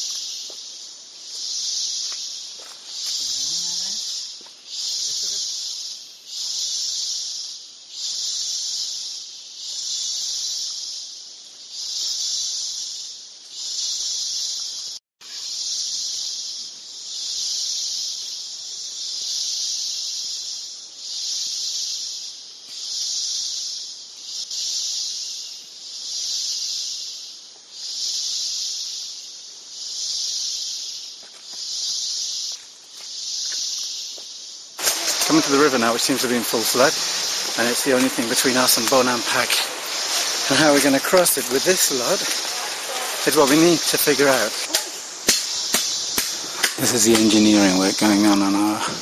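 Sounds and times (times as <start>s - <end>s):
insects buzzing in chorus: 0.0s - 49.0s.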